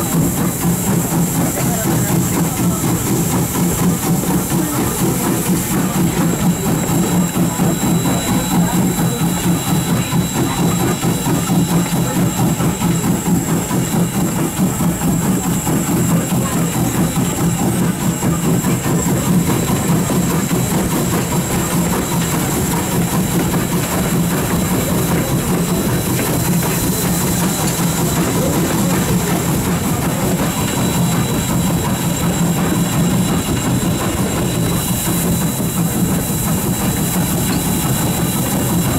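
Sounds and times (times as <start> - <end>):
steam locomotive rhythmic rumble: 0.0 - 38.9.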